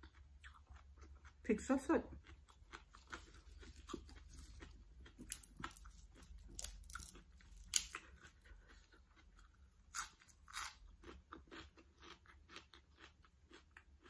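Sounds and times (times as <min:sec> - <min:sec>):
chewing crisp raw vegetables: 0:00.0 - 0:14.0.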